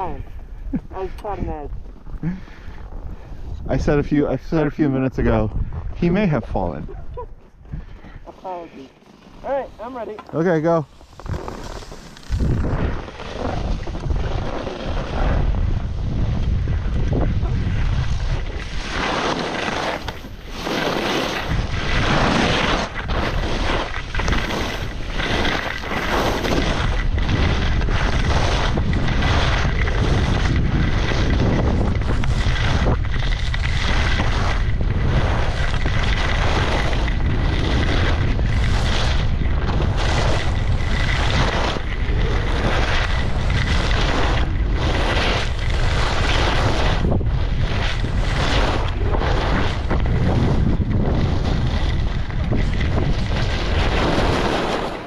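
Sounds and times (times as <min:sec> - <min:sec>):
wind buffeting microphone: 0:00.0 - 0:08.4, 0:09.4 - 0:19.3, 0:20.0 - 0:54.6
skis hissing and scraping on snow: 0:08.0 - 0:55.0.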